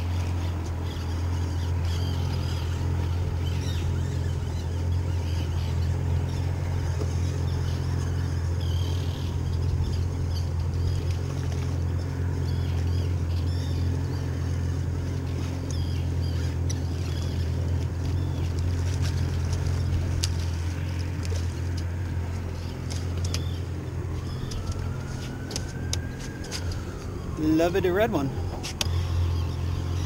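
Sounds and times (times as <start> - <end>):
outboard motor idling: 0.0 - 30.0.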